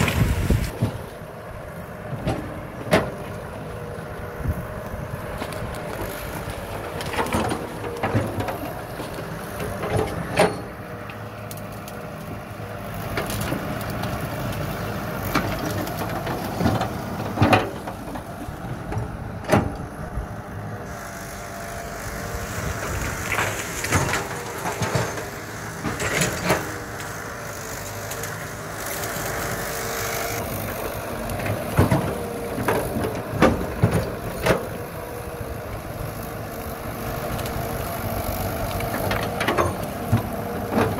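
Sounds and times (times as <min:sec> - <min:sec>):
excavator diesel engine: 0:00.0 - 0:40.9
brush and trees cracking: 0:02.1 - 0:10.3, 0:10.9 - 0:20.1, 0:20.8 - 0:40.9.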